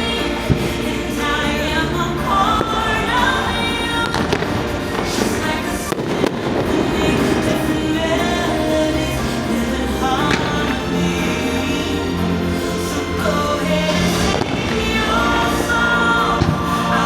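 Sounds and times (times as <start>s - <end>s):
music soundtrack: 0.0s - 17.0s.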